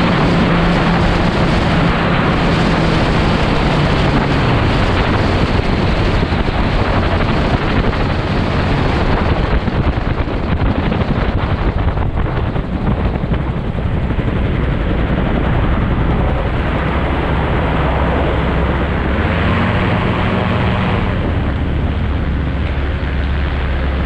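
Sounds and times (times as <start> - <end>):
light aircraft engine and propeller: 0.0 - 24.0
wind rushing over microphone: 0.0 - 24.0.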